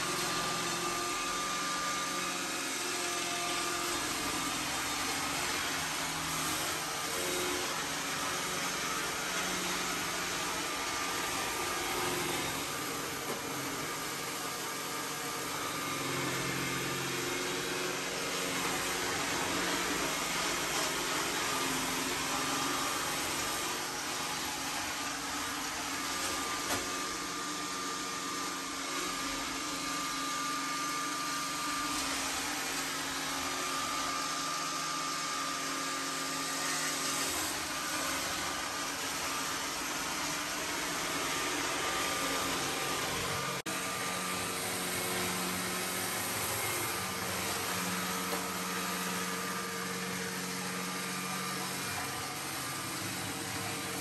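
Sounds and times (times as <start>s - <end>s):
robot vacuum motor whirr: 0.0s - 54.0s.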